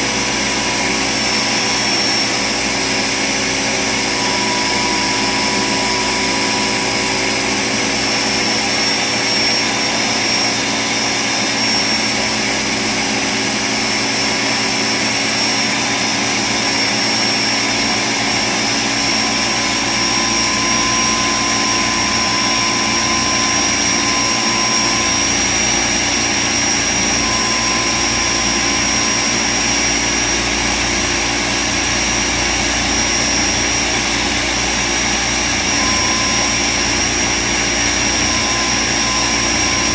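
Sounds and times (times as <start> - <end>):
blender grinding: 0.0 - 39.9
high whine: 0.0 - 39.9.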